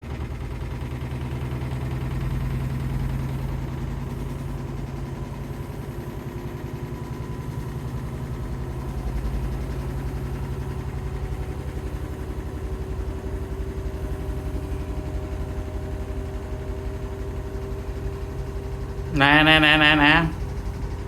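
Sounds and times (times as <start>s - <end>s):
washing machine pulsing vibration: 0.0s - 21.0s.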